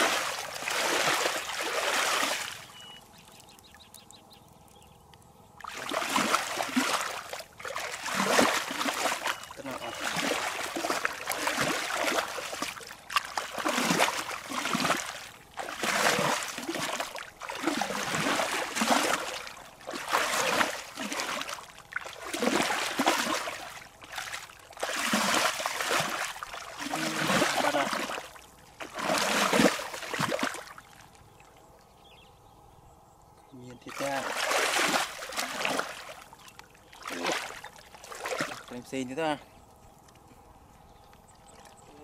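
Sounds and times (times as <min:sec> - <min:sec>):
footsteps sloshing in muddy water: 0:00.0 - 0:03.9, 0:05.6 - 0:31.6, 0:33.7 - 0:42.0.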